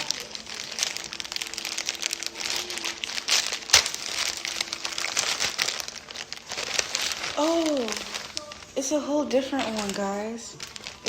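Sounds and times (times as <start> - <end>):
packaging rustling and crackling: 0.0 - 11.0.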